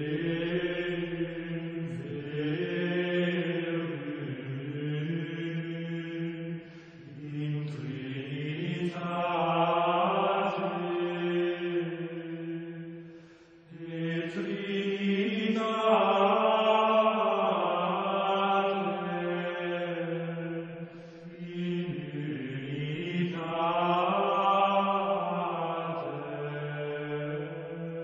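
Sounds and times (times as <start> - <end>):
chant in long-held notes: 0.0 - 28.0.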